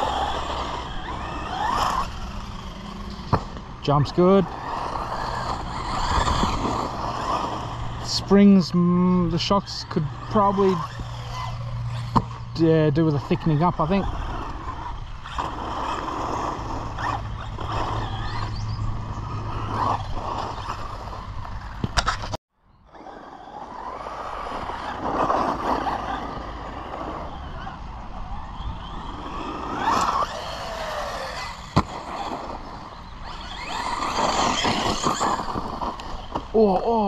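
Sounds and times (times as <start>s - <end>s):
electric rc truck motor whine: 0.0s - 37.0s.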